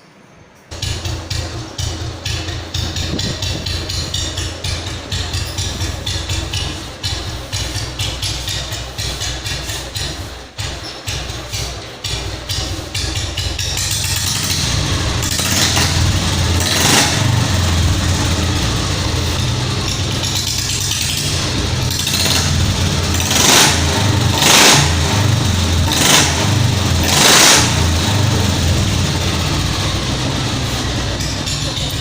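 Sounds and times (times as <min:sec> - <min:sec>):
motorcycle engine revving: 0:00.7 - 0:32.0.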